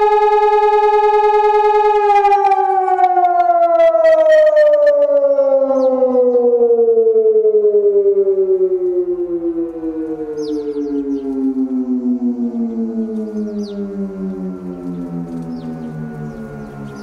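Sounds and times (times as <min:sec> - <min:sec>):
electronic siren with falling pitch: 0:00.0 - 0:17.0.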